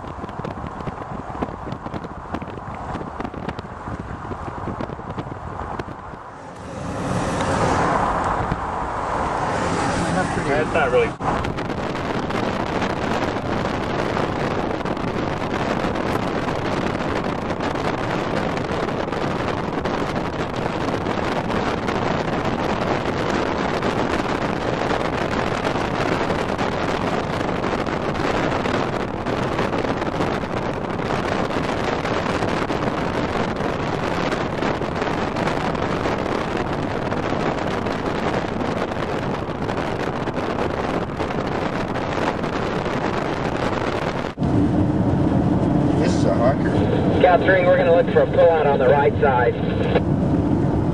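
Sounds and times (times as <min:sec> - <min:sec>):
vehicle running noise: 0:00.0 - 0:50.9
wind rushing over microphone: 0:00.0 - 0:50.9.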